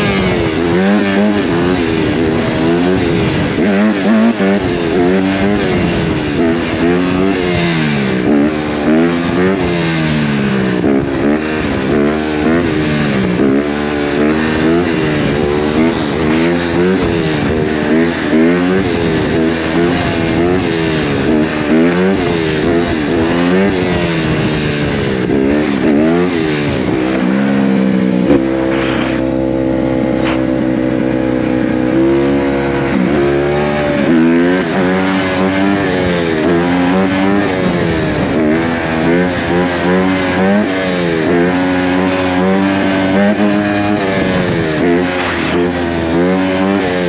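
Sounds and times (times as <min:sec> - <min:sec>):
engine revving up and down: 0:00.0 - 0:47.0.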